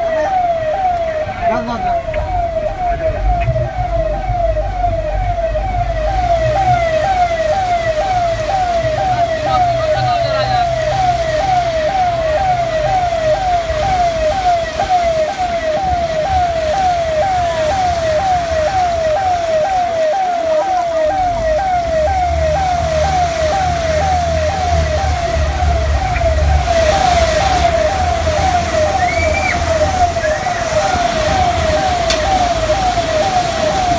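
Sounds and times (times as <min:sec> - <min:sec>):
electronic siren yelping: 0:00.0 - 0:33.9.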